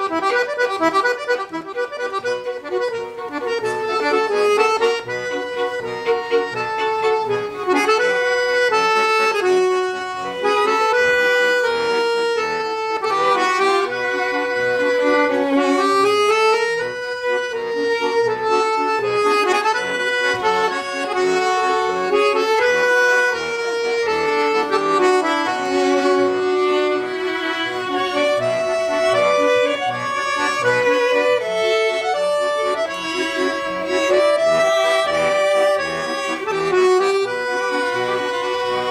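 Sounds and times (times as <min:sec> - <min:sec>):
accordion music: 0:00.0 - 0:38.9.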